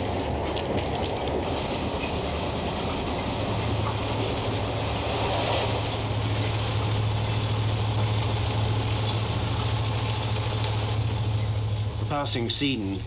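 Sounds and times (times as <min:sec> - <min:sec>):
constant low hum: 0:00.0 - 0:13.0
train rumbling inside carriage: 0:00.0 - 0:13.0.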